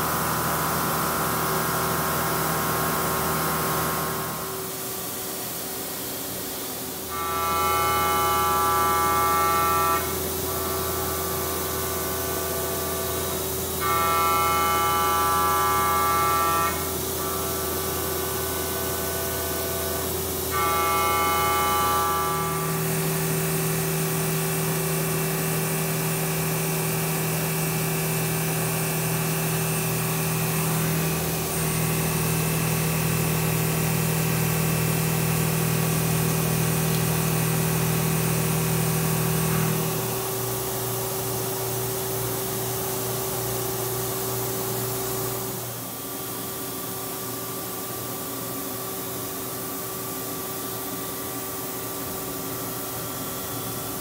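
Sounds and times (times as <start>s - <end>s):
milling machine cutting whine: 0.0s - 6.0s, 6.6s - 46.5s.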